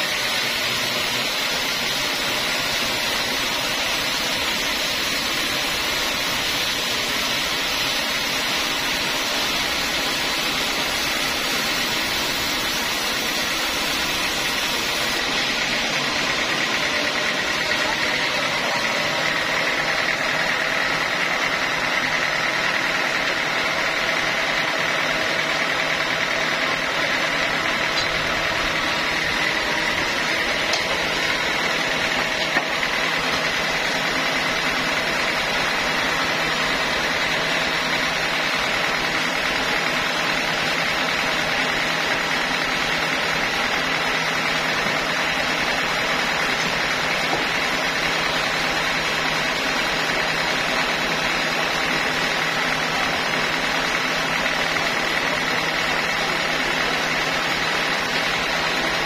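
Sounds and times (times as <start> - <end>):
sawmill mechanical drone: 0.0 - 59.0.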